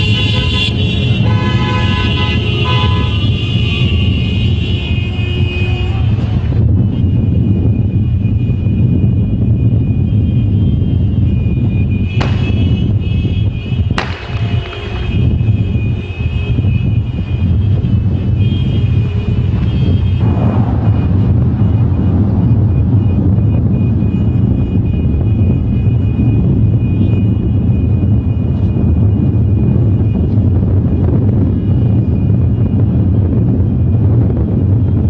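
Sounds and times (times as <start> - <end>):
vehicles rumbling: 0.0 - 35.0.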